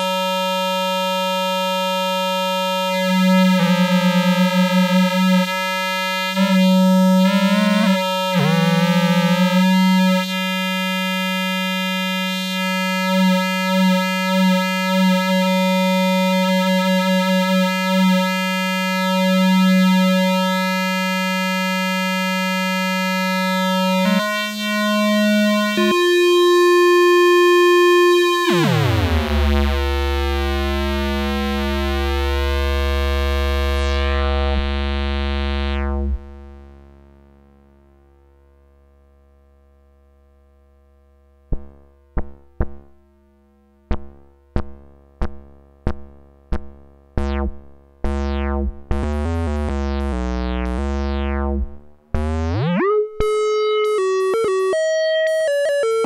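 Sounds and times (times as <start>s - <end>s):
buzzy electronic synth tone: 0.0s - 37.6s, 46.5s - 56.0s.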